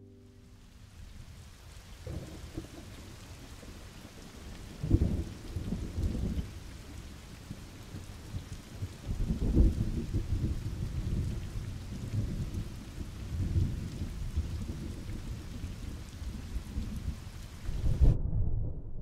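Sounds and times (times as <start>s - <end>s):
rain on a hard wet surface: 0.3s - 18.2s
low thunder rumbling: 2.0s - 19.0s.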